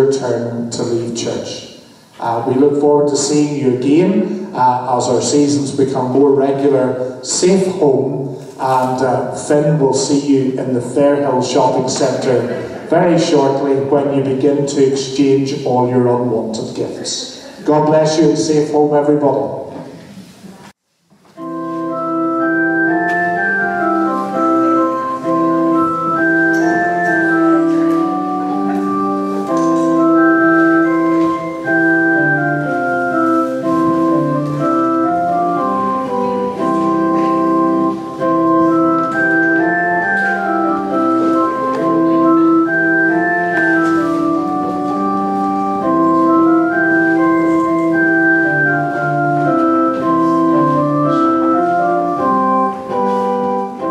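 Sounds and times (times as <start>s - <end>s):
slow organ music: 0.0s - 17.0s, 20.9s - 53.9s.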